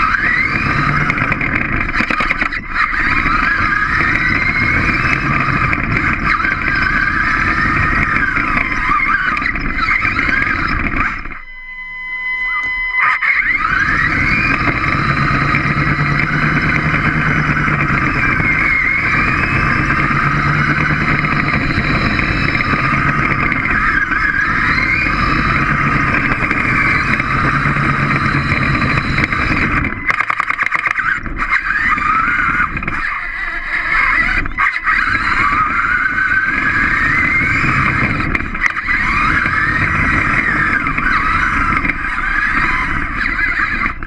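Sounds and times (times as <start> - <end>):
robot drive motors whining: 0.0 - 44.0.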